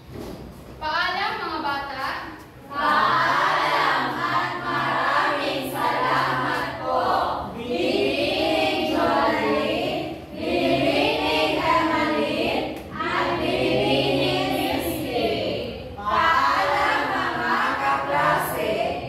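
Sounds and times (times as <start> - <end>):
group singing in unison: 2.7 - 19.0.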